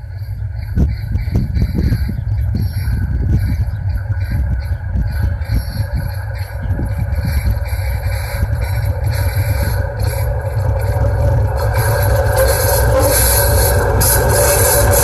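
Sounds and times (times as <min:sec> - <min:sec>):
diesel locomotive engine: 0:00.0 - 0:15.0
steady low rumble: 0:00.0 - 0:15.0
train rail noise: 0:00.0 - 0:15.0.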